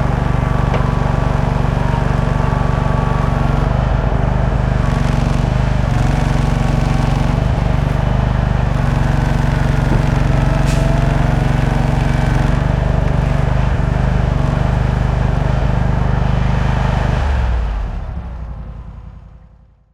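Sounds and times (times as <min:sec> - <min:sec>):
truck engine running: 0:00.0 - 0:19.6.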